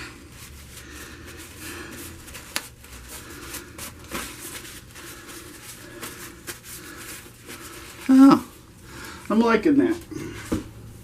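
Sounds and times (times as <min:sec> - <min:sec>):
quiet rustling and handling: 0:00.0 - 0:11.0.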